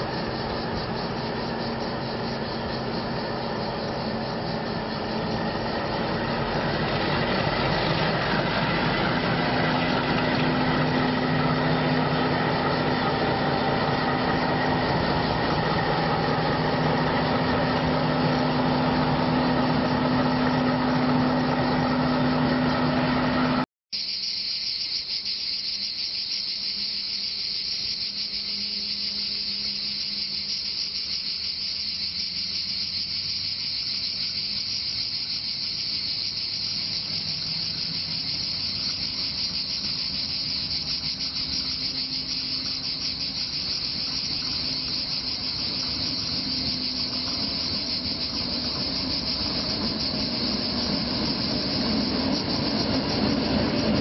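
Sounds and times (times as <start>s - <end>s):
diesel locomotive engine drone: 0.0s - 23.7s, 27.4s - 54.0s
cicadas buzzing: 0.0s - 54.0s.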